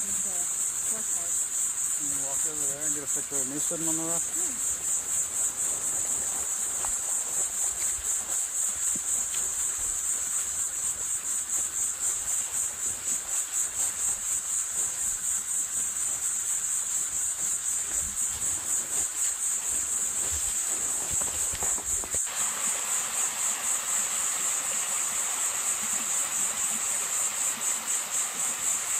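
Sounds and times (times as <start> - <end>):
high-pitched insect trill: 0.0 - 28.9.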